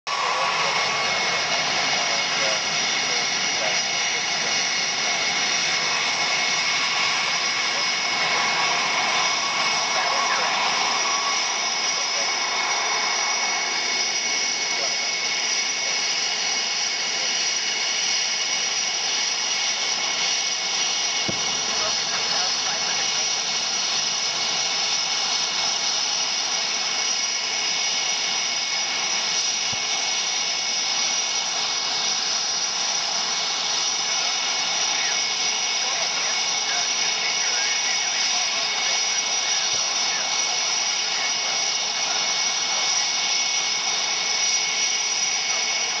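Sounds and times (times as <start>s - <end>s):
jet engines idling: 0.1s - 46.0s.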